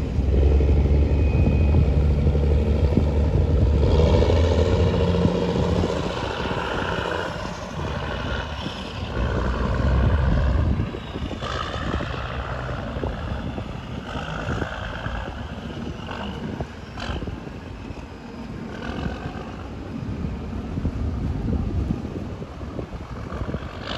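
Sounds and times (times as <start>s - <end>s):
tugboat engine drone: 0.0s - 23.9s.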